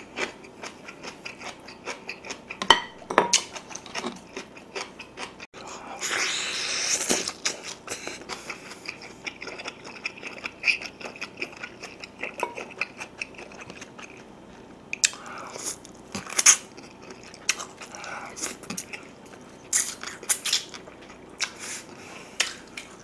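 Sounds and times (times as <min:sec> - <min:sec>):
person chewing meat: 0:00.0 - 0:02.6, 0:03.3 - 0:23.0.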